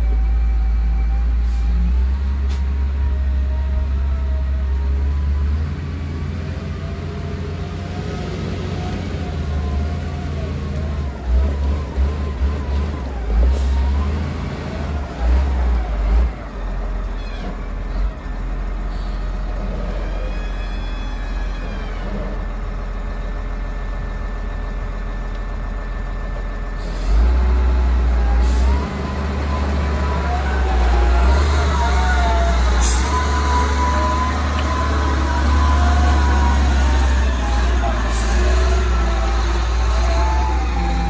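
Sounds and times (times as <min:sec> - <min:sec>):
diesel engine rumbling and revving: 0:00.0 - 0:41.0.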